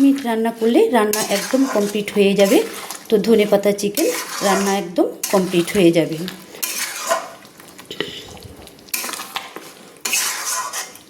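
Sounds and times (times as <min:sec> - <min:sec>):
food sizzling: 0:00.0 - 0:11.0
spatula scraping a pan: 0:00.6 - 0:11.0.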